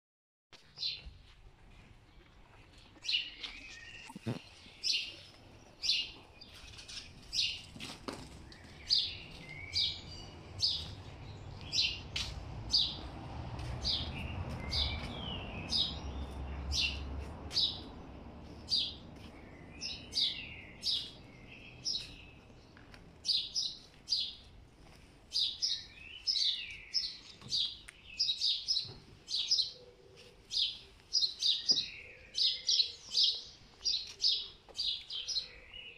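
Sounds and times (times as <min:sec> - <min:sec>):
small birds chirping: 0:02.2 - 0:35.9.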